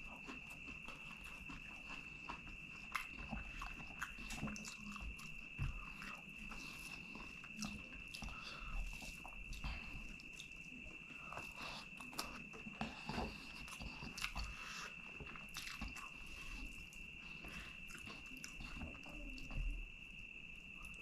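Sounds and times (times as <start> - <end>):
chewing and crunching: 0.0 - 21.0.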